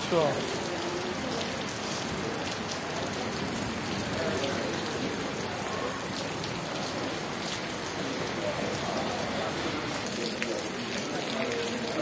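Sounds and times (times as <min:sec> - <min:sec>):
rain splashing into floodwater: 0:00.0 - 0:12.0.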